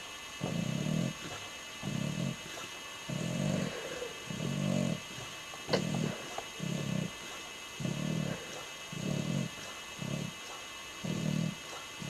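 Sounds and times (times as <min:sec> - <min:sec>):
dog snoring: 0:00.4 - 0:12.0.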